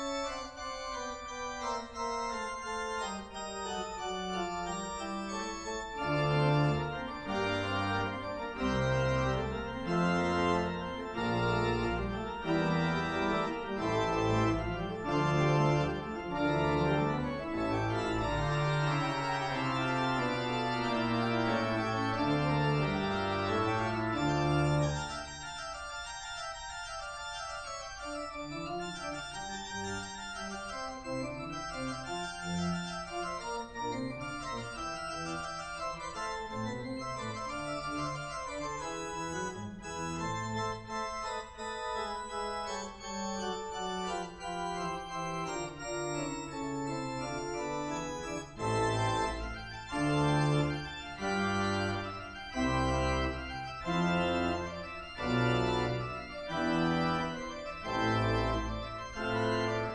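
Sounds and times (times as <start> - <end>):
church organ playing baroque music: 0.0 - 59.9.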